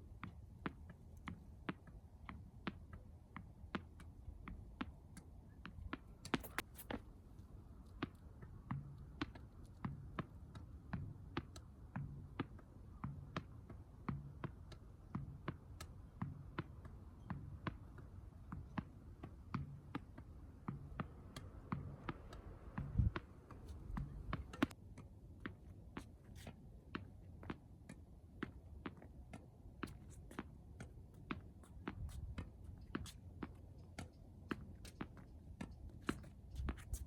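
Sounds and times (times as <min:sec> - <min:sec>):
tennis ball hit and bouncing: 0:00.2 - 0:07.0, 0:08.0 - 0:37.0.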